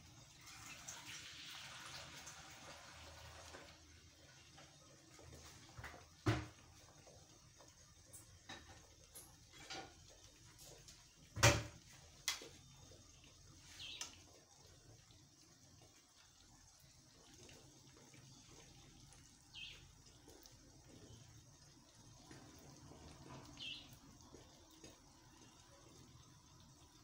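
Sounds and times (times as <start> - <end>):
omelette frying hiss: 0.0 - 27.0.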